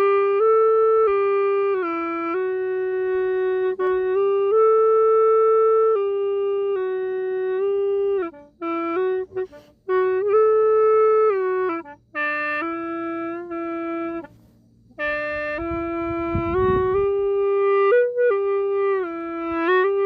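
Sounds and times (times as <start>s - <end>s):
bamboo flute melody: 0.0s - 20.0s.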